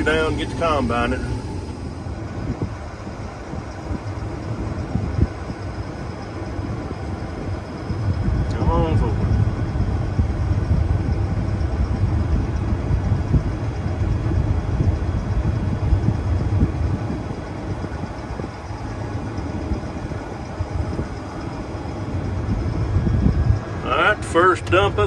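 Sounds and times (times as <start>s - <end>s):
combine harvester engine humming: 0.0s - 25.0s.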